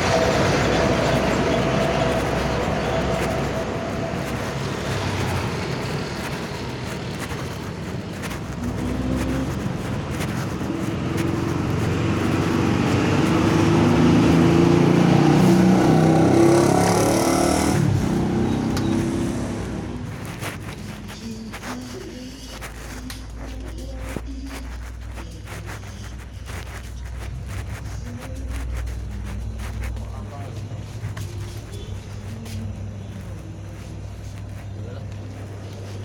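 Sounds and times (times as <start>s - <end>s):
motor vehicle passing: 0.0s - 36.0s.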